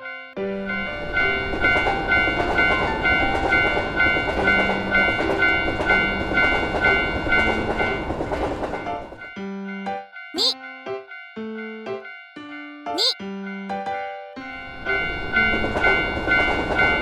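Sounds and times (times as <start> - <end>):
passing train: 0.0 - 17.0
railroad crossing bell ringing: 0.0 - 17.0.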